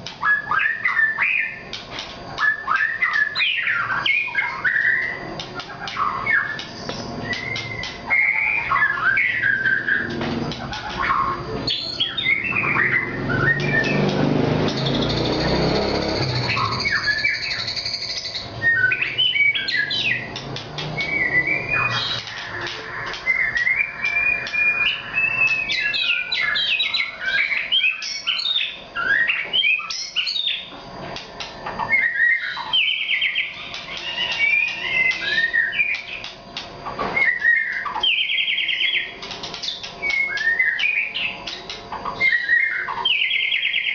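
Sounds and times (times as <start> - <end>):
rapid rattling trills: 0.0 - 28.9, 29.5 - 43.9
bird singing whistles: 0.2 - 1.6, 2.4 - 5.3, 5.9 - 10.2, 10.8 - 30.7, 31.8 - 36.2, 37.1 - 41.4, 42.2 - 43.9.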